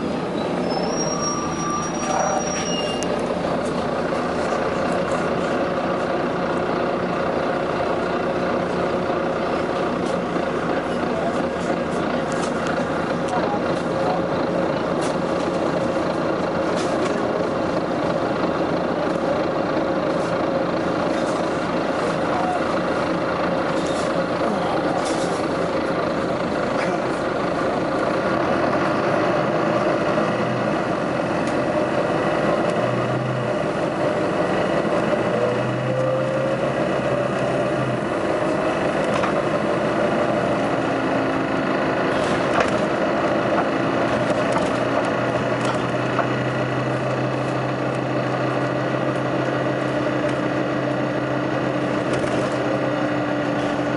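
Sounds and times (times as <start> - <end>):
engine noise: 0.0 - 53.9.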